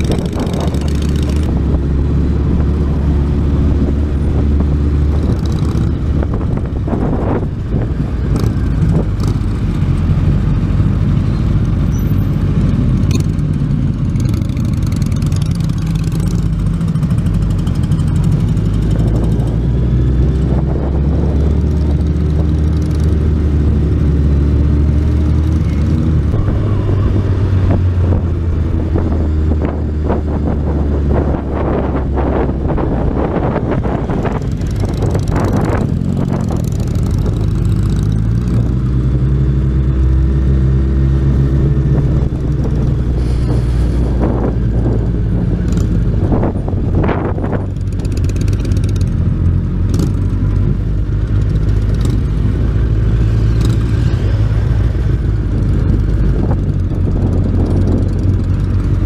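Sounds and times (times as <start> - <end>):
motorcycle engine: 0.0 - 59.0
road noise: 0.0 - 59.0.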